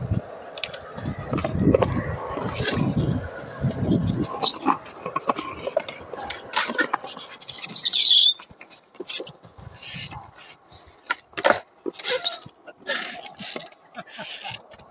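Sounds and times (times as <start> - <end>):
skateboard rolling and scuffing: 0.0 - 14.9
skateboard scraping: 0.0 - 14.9
skateboard clacking on concrete: 0.1 - 14.9.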